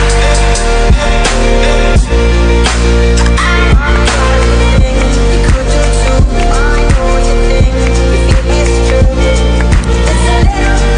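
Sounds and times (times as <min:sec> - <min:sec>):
electronic music with steady beat: 0:00.0 - 0:10.9.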